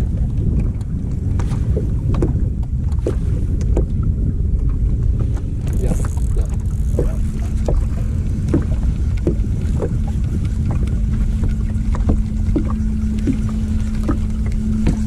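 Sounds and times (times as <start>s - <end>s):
steady low hum: 0.0s - 15.0s
waves slapping boat hull: 0.0s - 15.0s
wind buffeting microphone: 0.0s - 15.0s.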